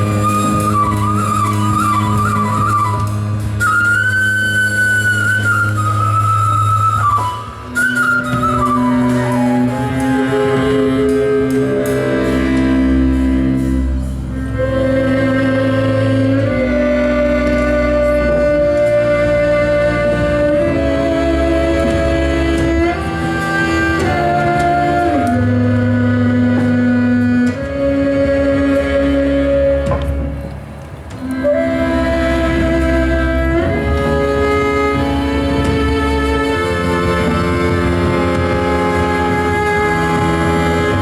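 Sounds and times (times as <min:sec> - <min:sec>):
low bass line: 0:00.0 - 0:41.0
melody notes: 0:00.0 - 0:41.0.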